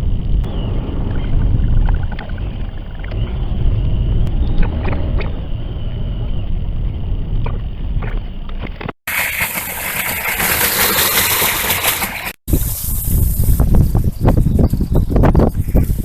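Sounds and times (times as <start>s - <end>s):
strong wind buffeting microphone: 0.0s - 9.0s, 9.9s - 16.0s.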